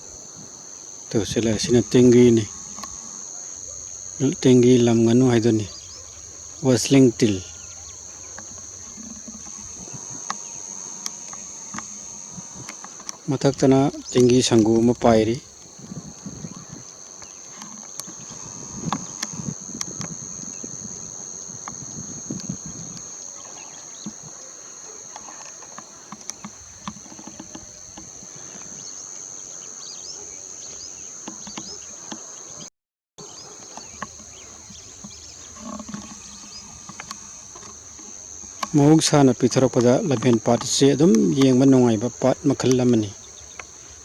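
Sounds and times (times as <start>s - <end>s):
crickets droning: 0.0s - 44.0s.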